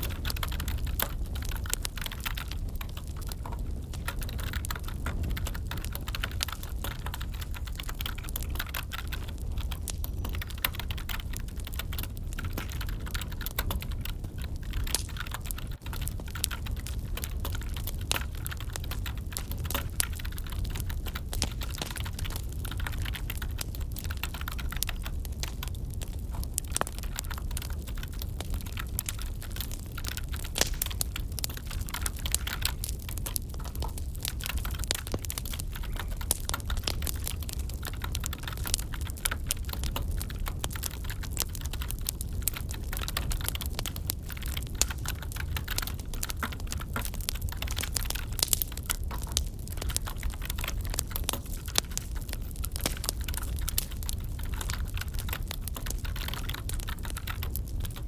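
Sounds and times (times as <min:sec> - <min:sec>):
wood fire burning: 0:00.0 - 0:58.0
typing on computer keyboard: 0:00.1 - 0:58.0.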